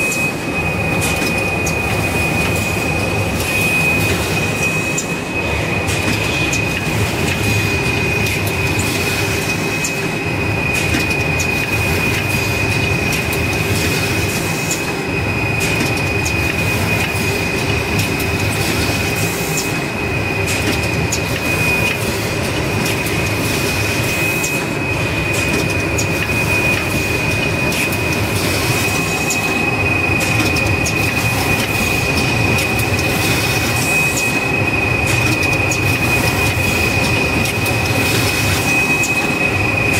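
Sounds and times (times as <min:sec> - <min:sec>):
high machine whine: 0:00.0 - 0:39.9
packing machine running: 0:00.0 - 0:39.9.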